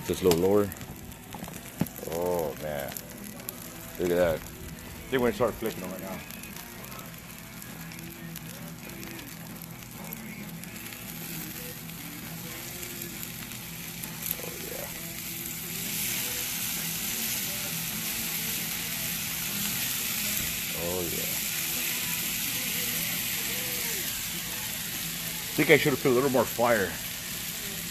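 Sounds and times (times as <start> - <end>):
steaks sizzling on griddle: 0.0 - 27.9.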